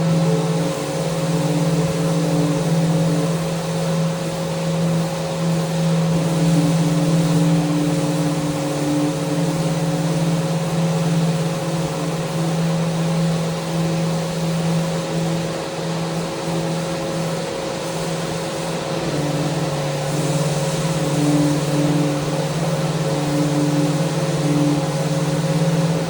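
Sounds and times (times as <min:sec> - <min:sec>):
electric sander on wood: 0:00.0 - 0:17.2, 0:18.0 - 0:26.0.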